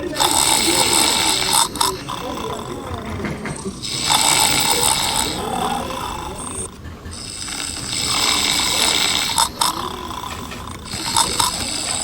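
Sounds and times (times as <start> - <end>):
cartoon snoring: 0.0 - 12.0.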